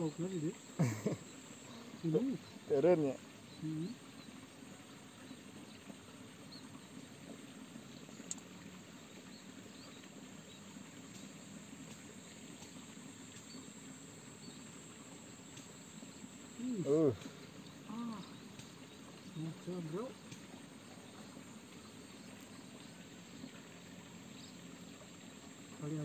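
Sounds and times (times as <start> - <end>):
high insect tone: 0.0 - 5.8, 7.8 - 26.0.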